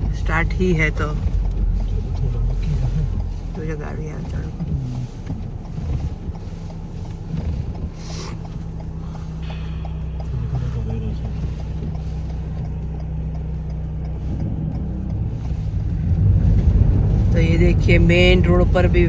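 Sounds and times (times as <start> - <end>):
car engine and road drone: 0.0 - 19.0
faint regular ticking: 0.0 - 19.0.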